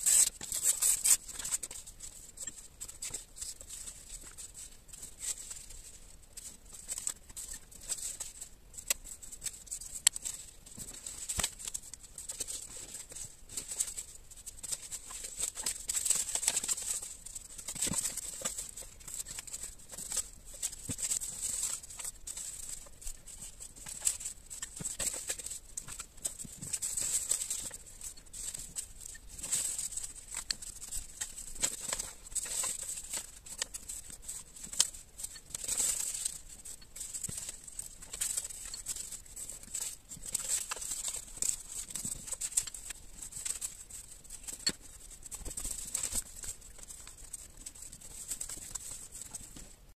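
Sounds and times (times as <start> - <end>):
paper strips rustling: 0.0 - 50.0.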